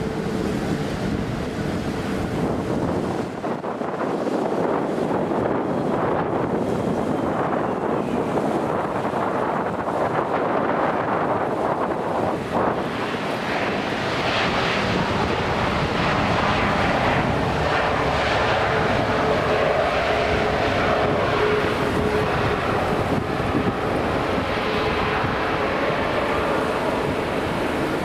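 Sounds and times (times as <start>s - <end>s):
jet airliner engines roaring: 0.0s - 28.0s.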